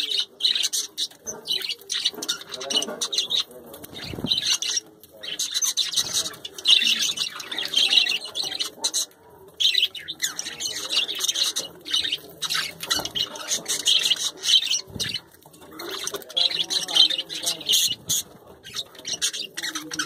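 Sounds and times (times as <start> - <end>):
budgerigars chattering: 0.0 - 20.0.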